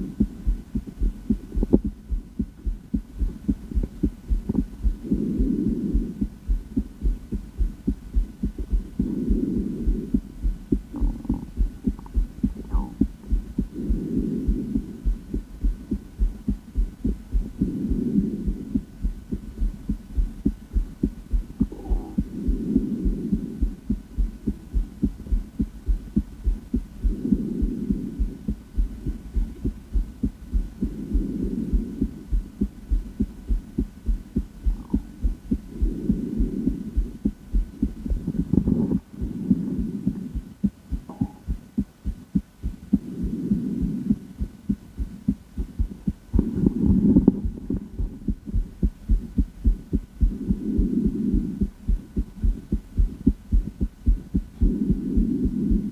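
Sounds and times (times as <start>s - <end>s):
heartbeat through stethoscope: 0.0s - 55.9s.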